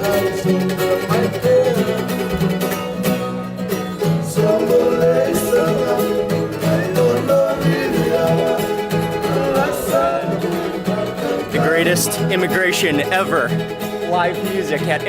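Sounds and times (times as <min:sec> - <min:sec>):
person singing: 0:00.0 - 0:02.7, 0:04.0 - 0:13.5
plucked string instruments: 0:00.0 - 0:15.0.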